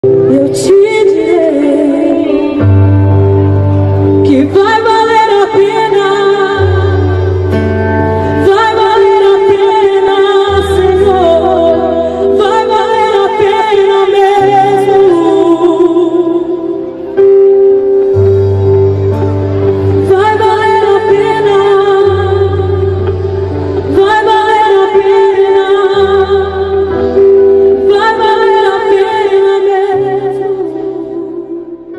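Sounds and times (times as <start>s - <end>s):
instrumental backing with bass: 0.0s - 31.9s.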